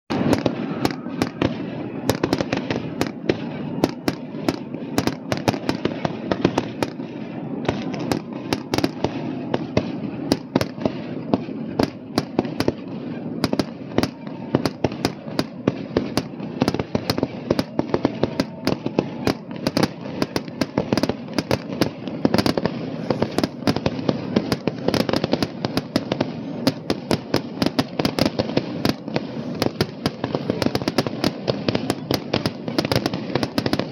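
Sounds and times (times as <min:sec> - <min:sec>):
fireworks bangs and crackles: 0:00.1 - 0:33.9
rumble of explosions: 0:00.1 - 0:33.9.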